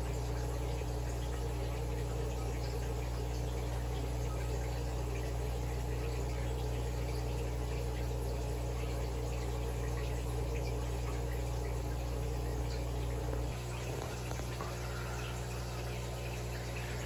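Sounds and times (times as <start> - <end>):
aquarium filter pump: 0.0 - 17.0.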